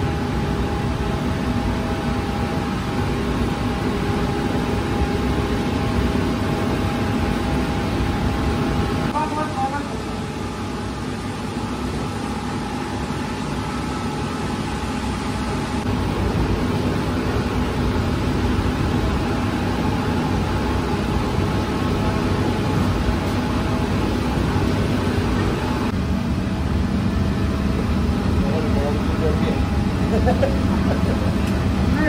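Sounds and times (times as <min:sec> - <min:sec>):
bakery machinery rumbling and hissing: 0:00.0 - 0:32.0.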